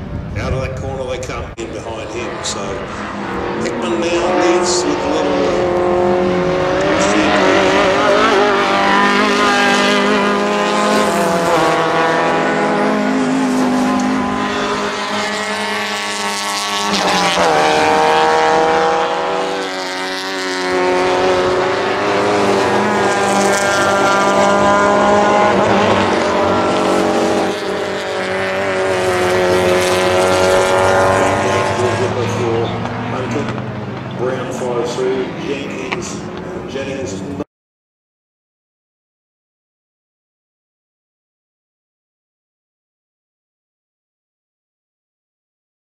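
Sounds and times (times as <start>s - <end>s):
racing car engines at full throttle: 0.0s - 37.5s.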